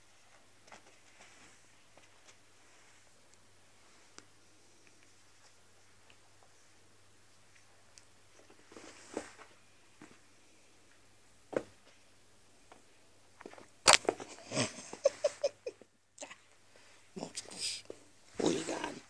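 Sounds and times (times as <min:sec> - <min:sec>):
rustling: 0:00.0 - 0:15.8, 0:16.5 - 0:19.0.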